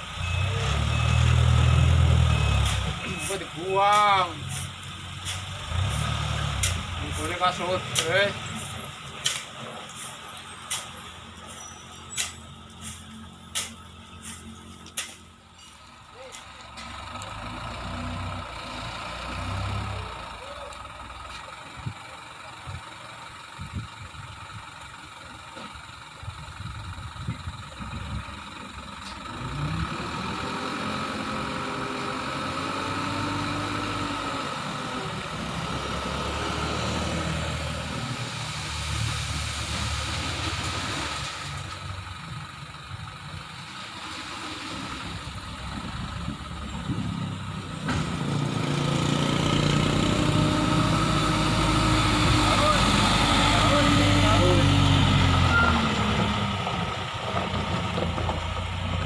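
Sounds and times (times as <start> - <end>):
truck engine revving: 0.0 - 15.4, 16.3 - 21.3, 26.8 - 59.0.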